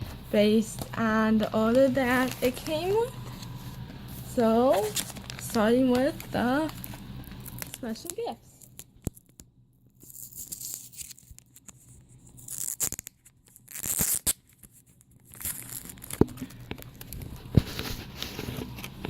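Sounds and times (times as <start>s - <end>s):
packaging crinkling and tearing: 2.0s - 3.9s, 4.7s - 9.4s, 10.0s - 19.0s.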